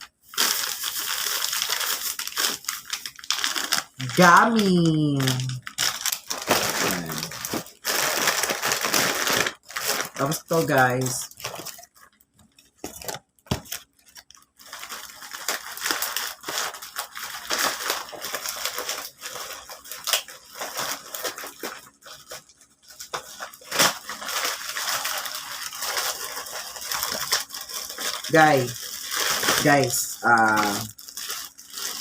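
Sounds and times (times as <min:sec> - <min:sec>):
wrapping paper rustling and tearing: 0:00.0 - 0:32.0.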